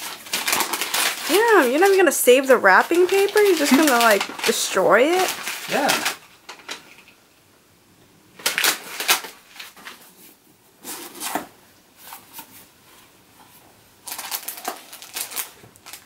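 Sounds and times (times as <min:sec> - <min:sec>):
cardboard and tissue paper rustling: 0:00.0 - 0:06.4, 0:08.4 - 0:16.0.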